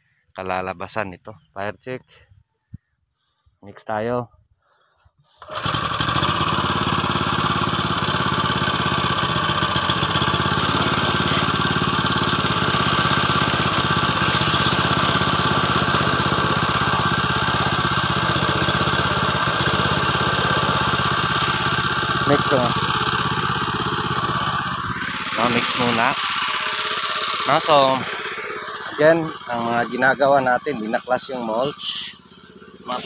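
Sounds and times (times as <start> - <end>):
paddle mixer churning liquid: 5.4 - 33.0.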